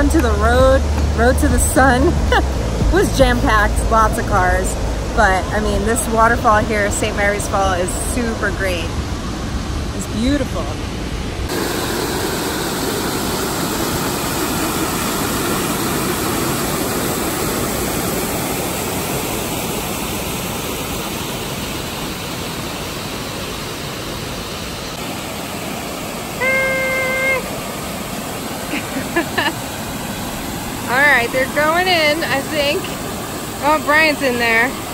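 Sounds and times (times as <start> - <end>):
river and waterfall roaring: 0.0 - 34.9.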